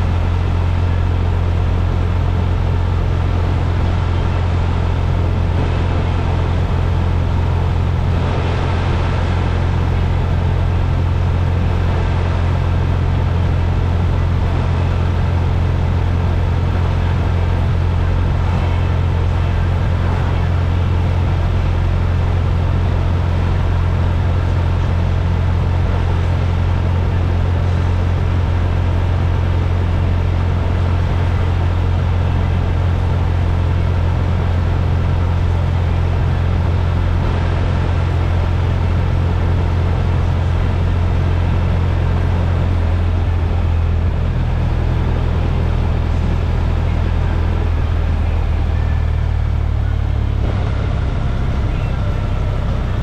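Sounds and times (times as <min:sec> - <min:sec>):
vehicle motor rumbling: 0:00.0 - 0:53.0.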